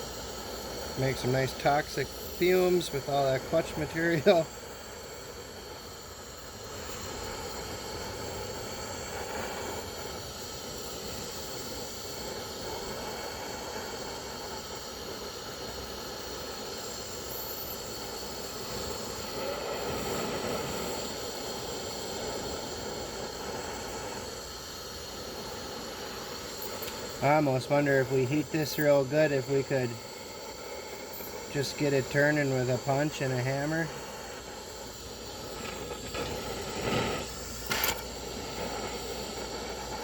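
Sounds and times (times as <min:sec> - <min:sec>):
gas torch flame hissing: 0:00.0 - 0:40.0.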